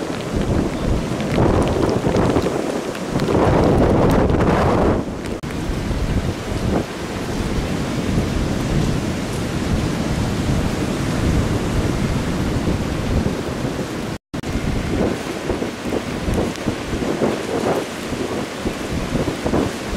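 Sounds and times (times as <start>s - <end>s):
heavy surf breaking: 0.0s - 19.9s
wind buffeting microphone: 0.0s - 19.9s.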